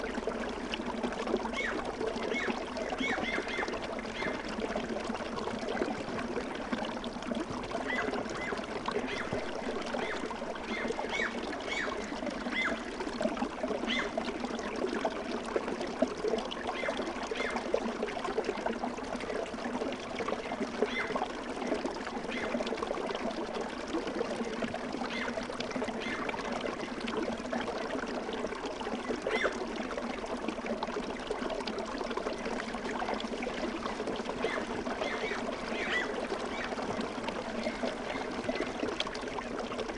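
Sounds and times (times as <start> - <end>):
babbling stream: 0.0 - 39.9.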